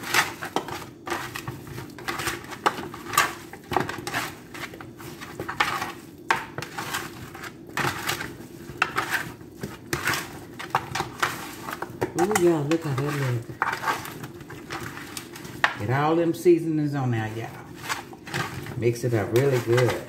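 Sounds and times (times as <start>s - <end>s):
chicken wings scraping metal pan: 0.0s - 16.1s, 17.2s - 20.0s.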